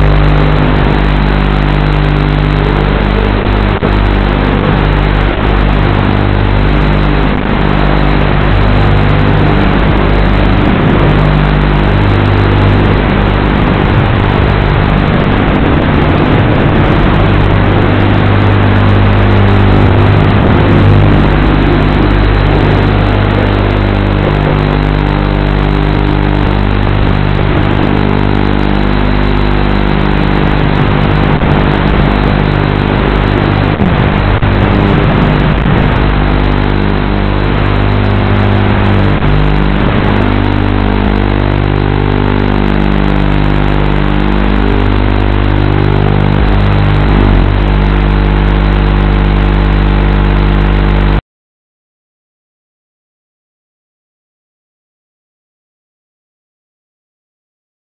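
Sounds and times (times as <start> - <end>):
drone motors buzzing: 0.0 - 51.2.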